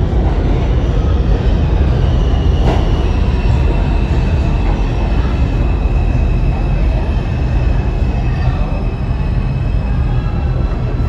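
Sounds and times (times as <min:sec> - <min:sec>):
subway train rumble: 0:00.0 - 0:11.0.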